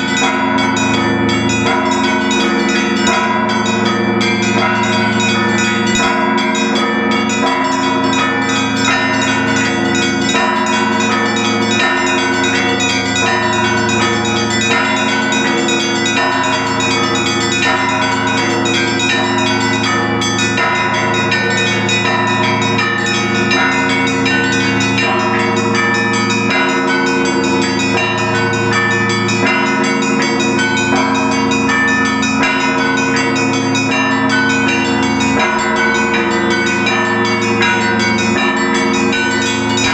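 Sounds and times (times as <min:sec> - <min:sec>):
deep bell strokes: 0:00.0 - 0:39.9
large bells ringing: 0:00.0 - 0:39.9
small bells struck rapidly: 0:00.0 - 0:39.9.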